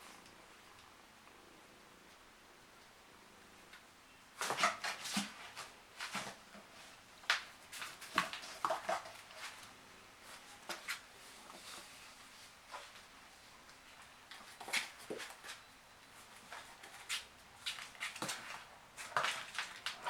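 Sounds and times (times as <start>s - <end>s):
kittens scuffling and clicking: 3.7s - 20.0s.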